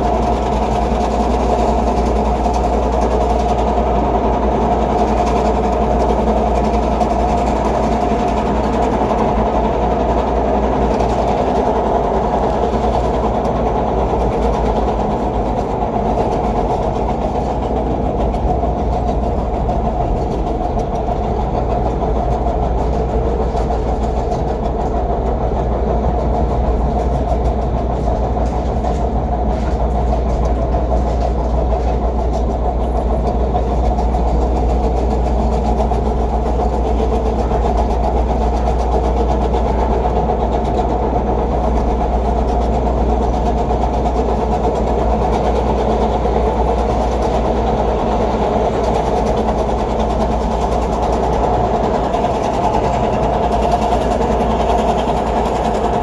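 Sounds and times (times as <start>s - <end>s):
train wheels running on rails: 0.0s - 56.0s.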